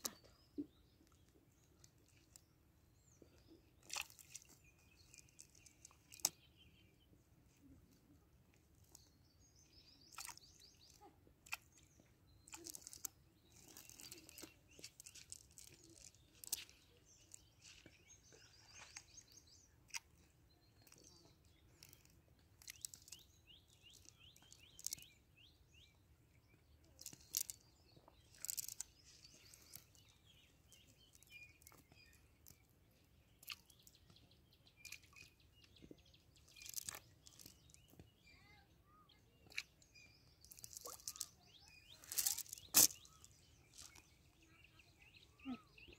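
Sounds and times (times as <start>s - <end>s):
faint bird chirps: 8.8s - 45.9s.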